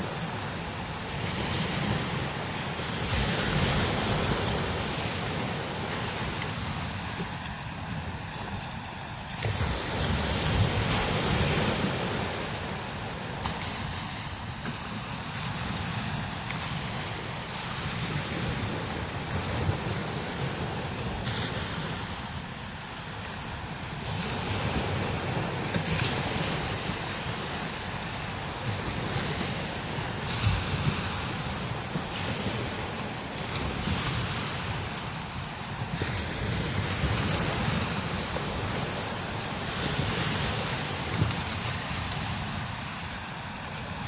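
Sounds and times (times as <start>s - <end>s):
strong wind gusting: 0.0s - 44.0s
wind buffeting microphone: 0.0s - 44.0s.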